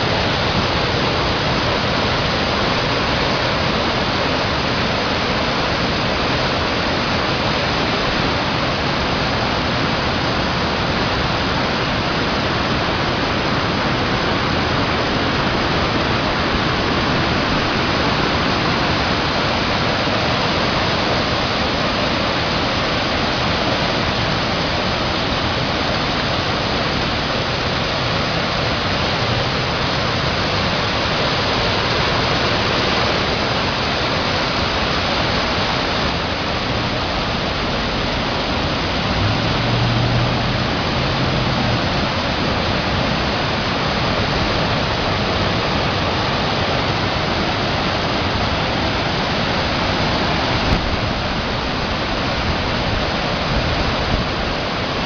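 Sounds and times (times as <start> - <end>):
water rushing over cascades: 0.0 - 55.0.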